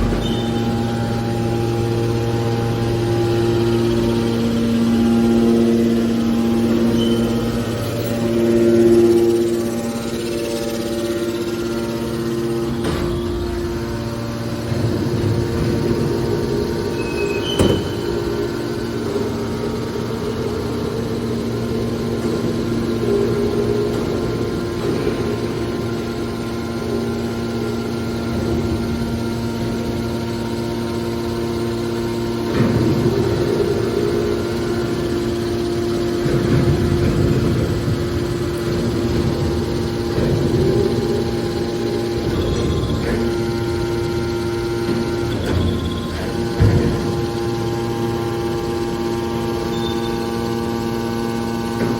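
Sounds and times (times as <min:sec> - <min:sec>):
hydraulic power unit humming: 0:00.0 - 0:51.9
rushes of machine noise: 0:00.0 - 0:51.9.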